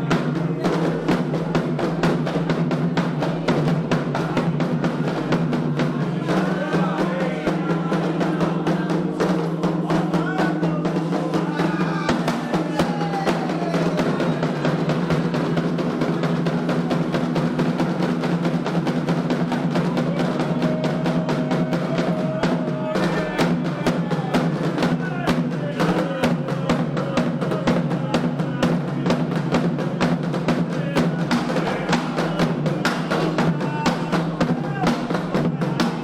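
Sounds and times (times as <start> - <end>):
hand drums fast rhythm: 0.0 - 36.0.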